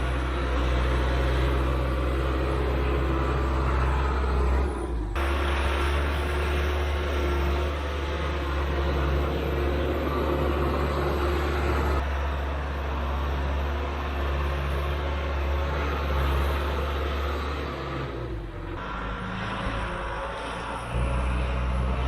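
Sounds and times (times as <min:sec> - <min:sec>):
large diesel engine running: 0:00.0 - 0:22.0.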